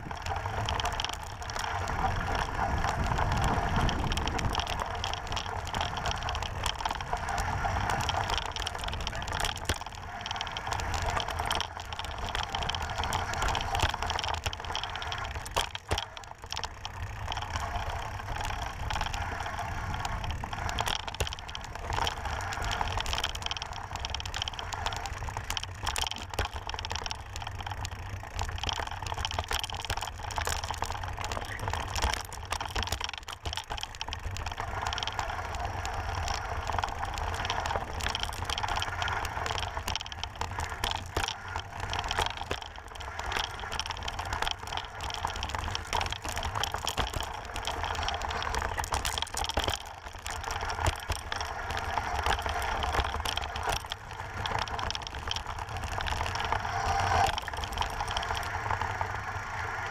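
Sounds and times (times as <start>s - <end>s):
bike tyres rattling on dirt trail: 0.0s - 59.9s.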